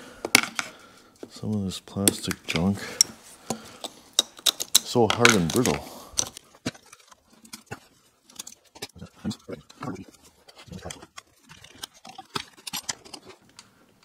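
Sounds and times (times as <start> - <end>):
plastic and metal parts clicking: 2.0 - 13.7.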